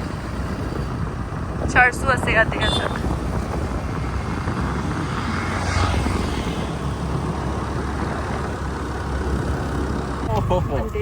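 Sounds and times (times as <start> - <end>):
wind rushing over microphone: 0.0 - 10.3
scooter engine hum: 0.0 - 11.0.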